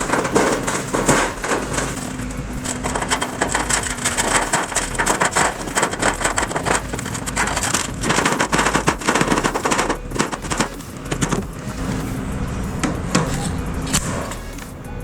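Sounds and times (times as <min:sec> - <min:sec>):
construction clattering and rattling: 0:00.0 - 0:15.0
low steady hum: 0:00.0 - 0:15.0.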